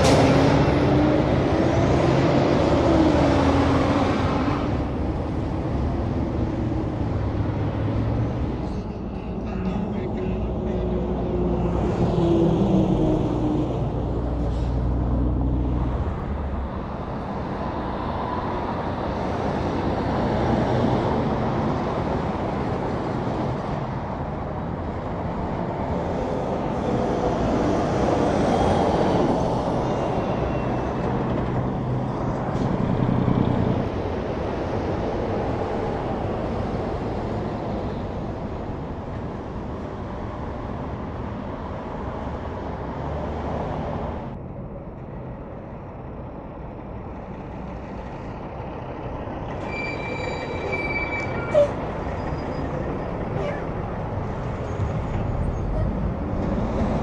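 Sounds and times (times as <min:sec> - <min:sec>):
diesel engine and tyre roar: 0:00.0 - 0:57.0
trucks passing on highway: 0:00.0 - 0:57.0.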